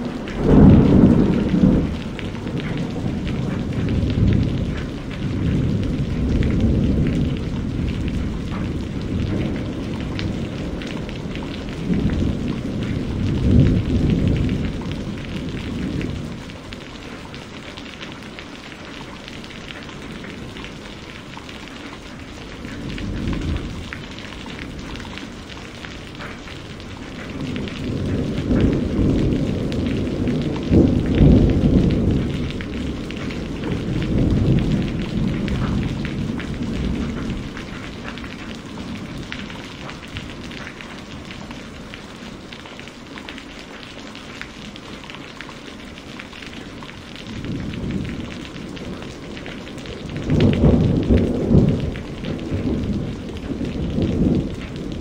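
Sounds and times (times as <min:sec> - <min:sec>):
rolling thunder: 0:00.0 - 0:17.2, 0:22.2 - 0:42.3, 0:46.9 - 0:55.0
steady rain: 0:00.0 - 0:55.0.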